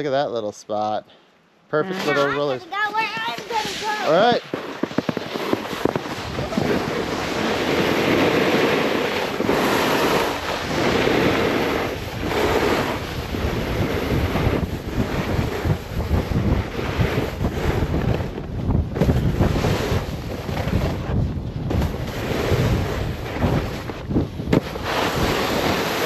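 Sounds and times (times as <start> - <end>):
snowboard scraping over slushy snow: 1.9 - 26.0
wind buffeting microphone: 2.7 - 26.0.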